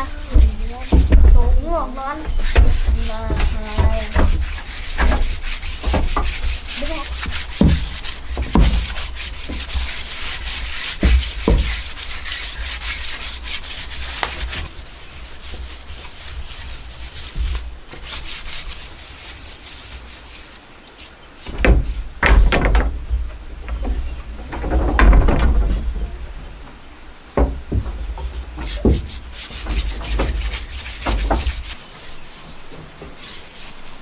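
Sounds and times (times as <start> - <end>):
knocks: 0.0 - 18.9, 21.4 - 31.8
hand sanding wood: 0.0 - 34.0.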